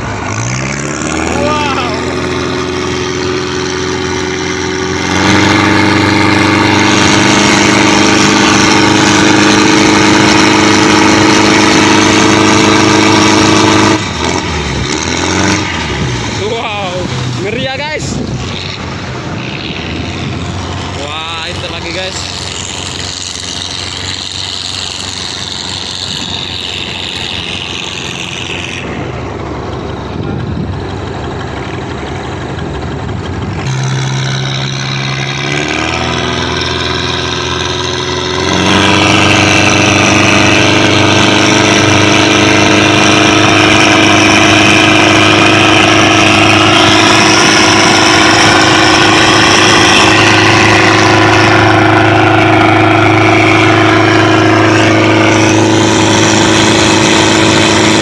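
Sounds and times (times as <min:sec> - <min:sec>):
boat engines running: 0:00.0 - 0:58.0.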